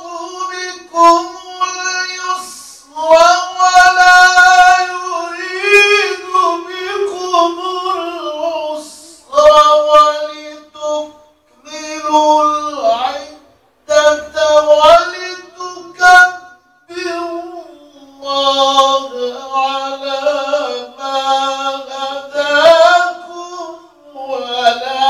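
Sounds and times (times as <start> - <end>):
man reciting melodically: 0.0 - 25.0.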